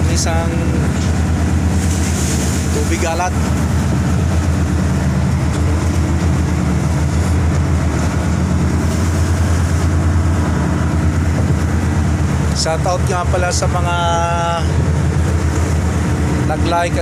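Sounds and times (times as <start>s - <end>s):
rushing noise: 0.0s - 17.0s
ship engines droning: 0.0s - 17.0s.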